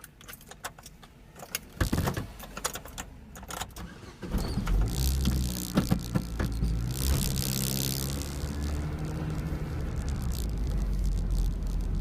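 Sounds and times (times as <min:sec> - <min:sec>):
car engine starting and idling: 0:00.0 - 0:12.0.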